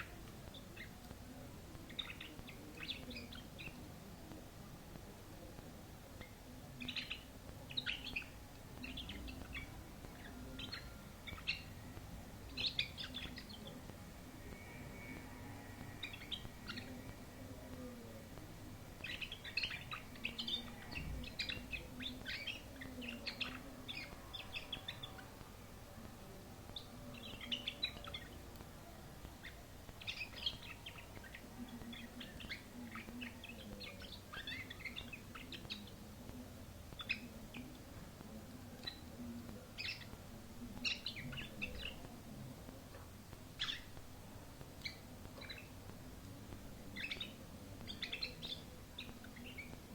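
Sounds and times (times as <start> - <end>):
canary singing: 0.0 - 49.9.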